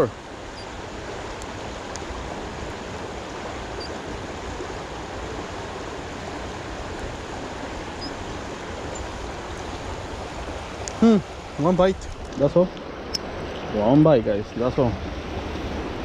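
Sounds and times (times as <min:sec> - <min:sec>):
creek water over rocks: 0:00.0 - 0:16.0.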